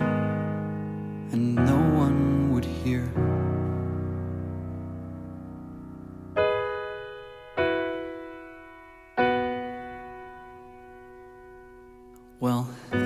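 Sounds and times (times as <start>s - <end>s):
piano chords ringing: 0.0s - 13.0s.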